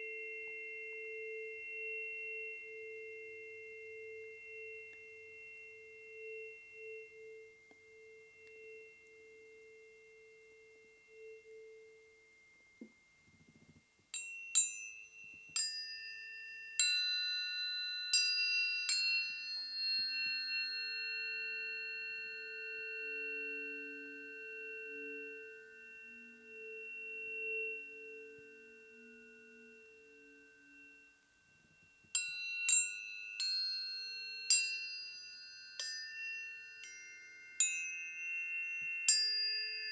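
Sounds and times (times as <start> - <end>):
sharp tuning fork strikes: 0.0 - 39.9
tuning forks ringing: 0.0 - 39.9.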